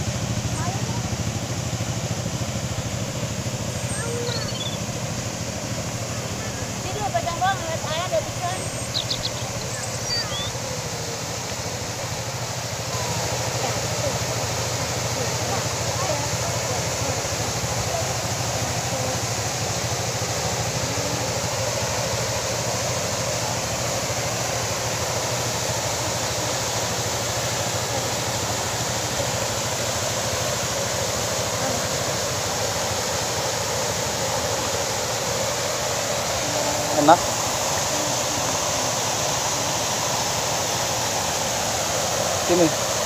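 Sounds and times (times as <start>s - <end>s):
water rushing over weir: 0.0s - 43.0s.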